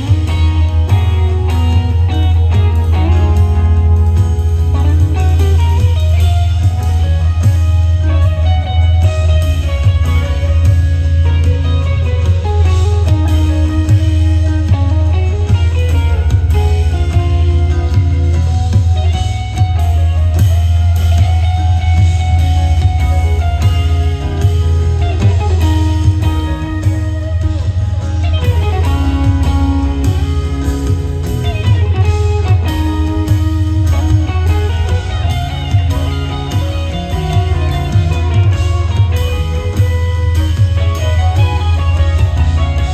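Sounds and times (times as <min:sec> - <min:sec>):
electric guitar melody: 0:00.0 - 0:42.9
heavy low bass: 0:00.0 - 0:42.9
live rock band music: 0:00.0 - 0:42.9.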